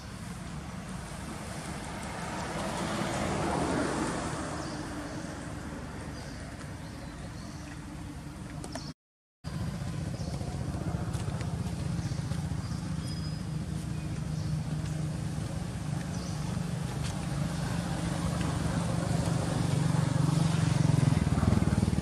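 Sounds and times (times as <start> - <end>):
traffic engine hum: 0.0 - 22.0.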